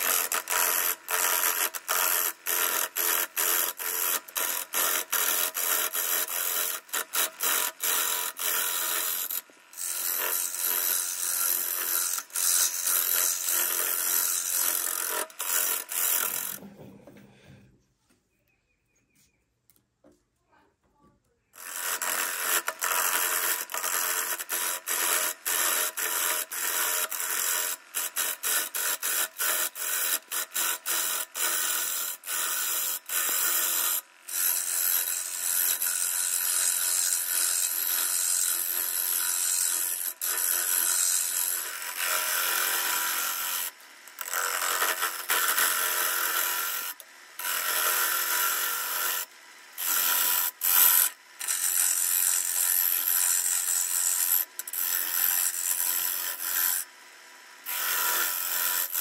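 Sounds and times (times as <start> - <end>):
lathe tool rasping on wood: 0.0 - 16.6, 21.6 - 56.9, 57.6 - 59.0.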